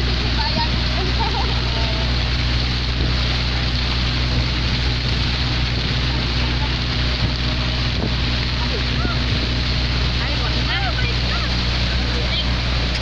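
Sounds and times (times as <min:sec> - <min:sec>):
constant noise wash: 0:00.0 - 0:13.0
motor hum: 0:00.0 - 0:13.0.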